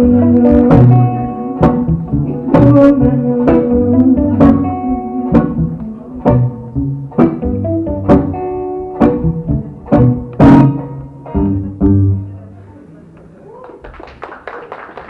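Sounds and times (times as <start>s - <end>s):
guitar strumming chords: 0.0s - 12.4s
low bass notes: 0.0s - 12.5s.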